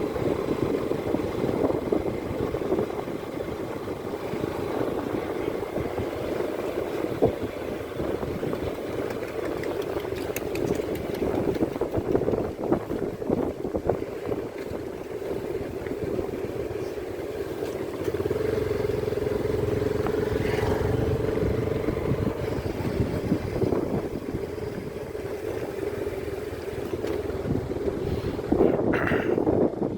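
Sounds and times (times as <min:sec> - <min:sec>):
road noise: 0:00.0 - 0:29.9
vehicle engine running: 0:00.0 - 0:29.9.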